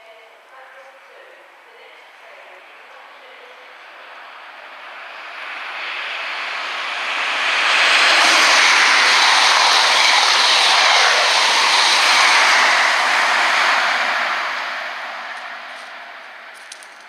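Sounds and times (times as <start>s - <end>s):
train passing at speed: 1.1s - 17.0s.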